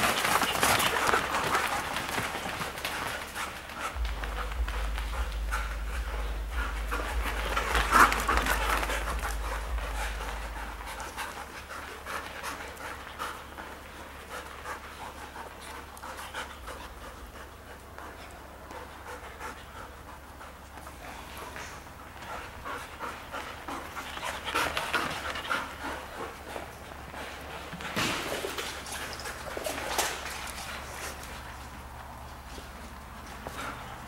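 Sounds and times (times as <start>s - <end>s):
dogs panting: 0.0s - 34.0s
dogs scuffling: 0.0s - 34.0s.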